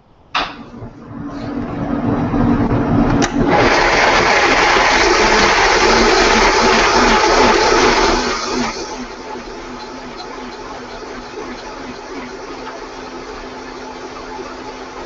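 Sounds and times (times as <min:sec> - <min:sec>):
blender motor whirring: 0:01.3 - 0:15.0.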